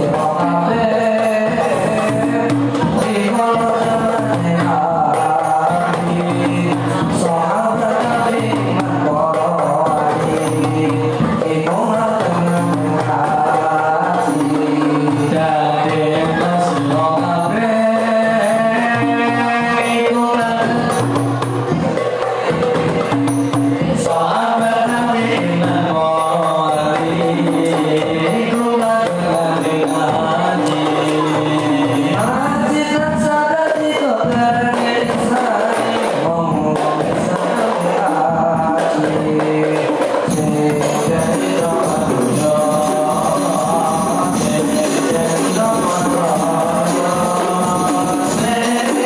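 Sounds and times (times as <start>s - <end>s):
frame drums beating: 0.0s - 49.0s
person singing: 0.0s - 49.0s.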